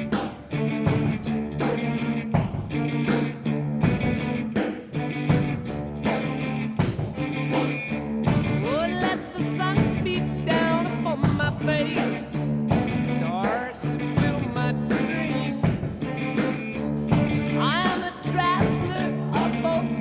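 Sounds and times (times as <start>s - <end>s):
rock music with electric guitar: 0.0s - 20.0s.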